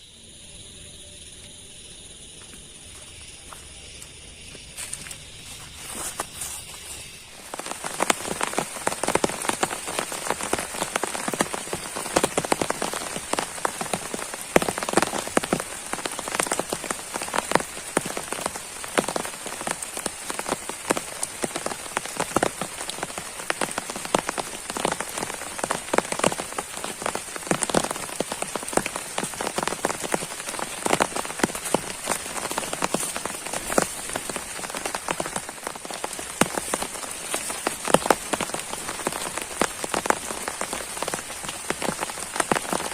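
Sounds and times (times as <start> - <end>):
heavy rain pouring: 5.5 - 42.9.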